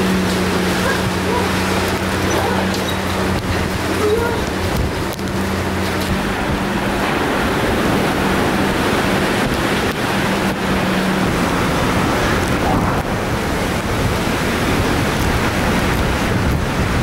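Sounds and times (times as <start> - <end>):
strong wind: 0.0 - 17.0
torrential rain: 0.0 - 17.0.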